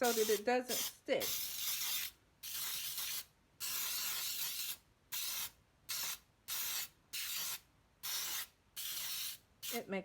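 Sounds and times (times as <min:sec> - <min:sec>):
aerosol spray hissing: 0:00.0 - 0:09.8.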